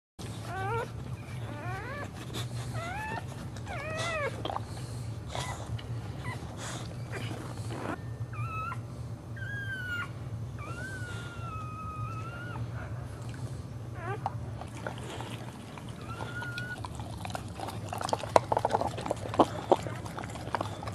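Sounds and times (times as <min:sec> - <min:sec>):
dog whining: 0:00.2 - 0:13.2, 0:13.9 - 0:20.9
steady low hum: 0:00.2 - 0:20.9.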